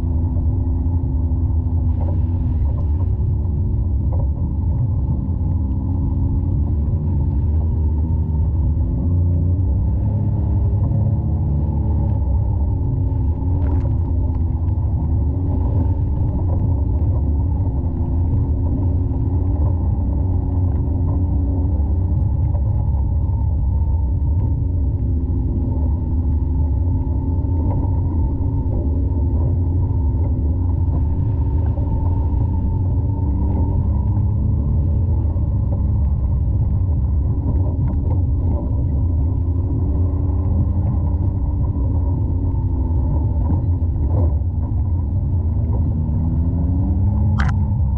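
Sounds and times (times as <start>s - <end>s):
muffled vehicle engine running: 0.0s - 47.9s.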